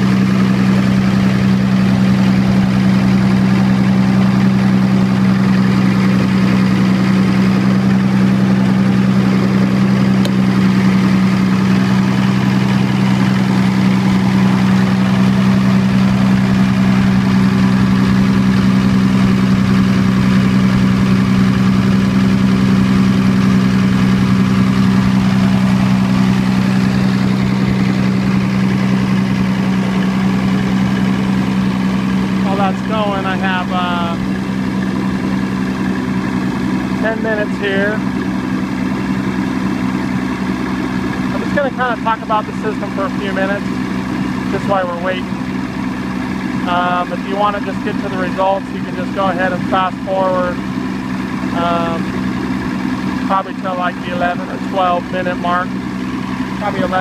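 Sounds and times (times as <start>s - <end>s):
diesel generator engine running: 0.0s - 57.0s.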